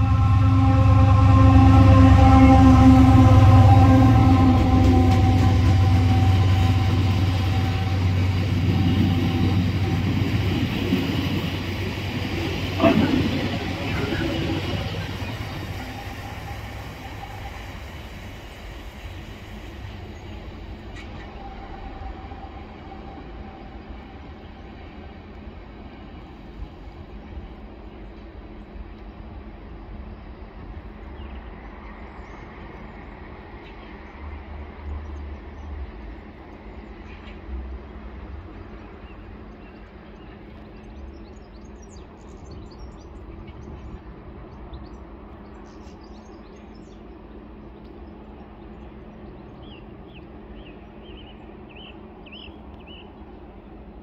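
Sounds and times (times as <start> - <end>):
birds chirping: 0.0 - 54.0
train wheels rumbling on rail: 0.0 - 54.0.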